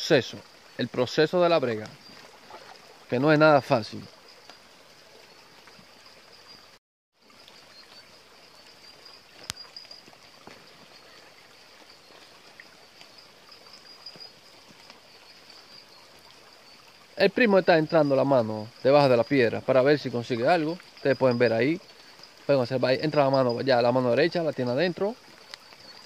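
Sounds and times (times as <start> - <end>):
creek water trickling over rocks: 0.0 - 26.0.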